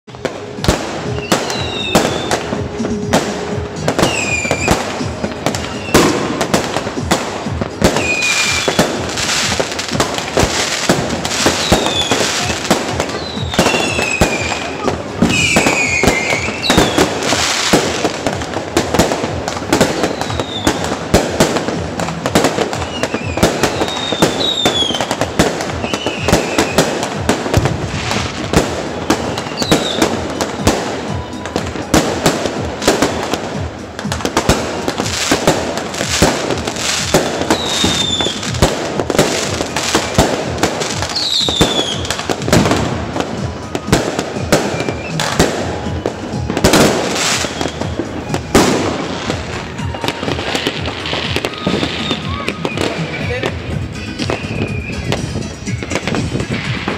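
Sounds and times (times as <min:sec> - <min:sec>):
fireworks crackling and banging: 0:00.0 - 0:56.9
falling firework whistles: 0:01.0 - 0:02.6, 0:03.9 - 0:06.6, 0:07.9 - 0:09.7, 0:10.3 - 0:18.2, 0:19.6 - 0:21.4, 0:22.4 - 0:33.4, 0:36.1 - 0:38.6, 0:39.2 - 0:53.2, 0:54.2 - 0:56.9.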